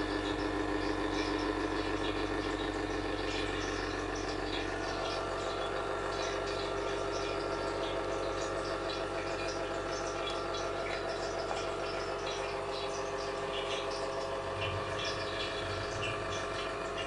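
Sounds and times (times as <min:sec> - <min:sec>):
machine hum with fixed tones: 0:00.0 - 0:17.0.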